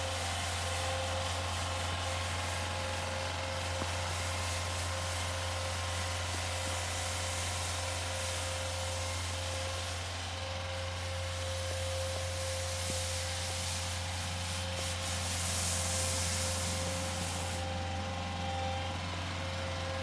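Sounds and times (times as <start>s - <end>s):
hiss of snow being thrown: 0.0s - 17.8s
snowblower running: 0.0s - 20.0s.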